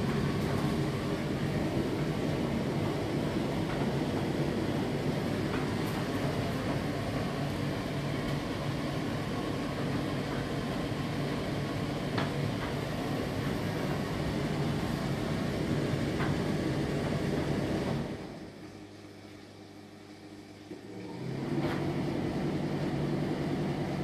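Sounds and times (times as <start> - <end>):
tumble dryer running: 0.0 - 19.7, 20.4 - 24.0.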